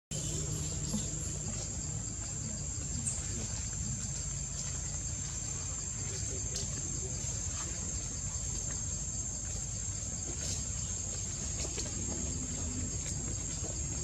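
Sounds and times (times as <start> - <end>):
insect chorus buzzing: 0.1 - 14.0.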